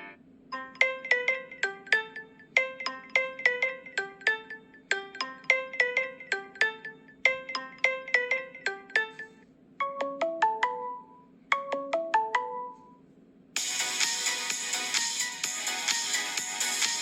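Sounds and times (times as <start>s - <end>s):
phone ringtone melody: 0.0s - 13.0s, 13.6s - 17.0s.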